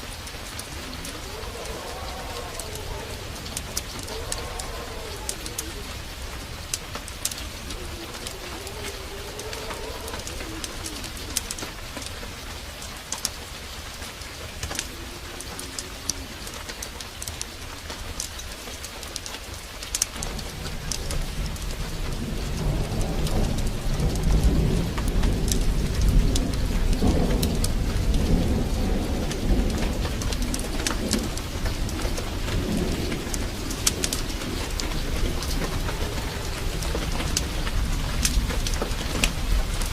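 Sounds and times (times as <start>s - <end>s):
thunder rumbling: 0.0s - 18.2s, 19.4s - 39.9s
heavy rain with crackles: 0.0s - 39.9s.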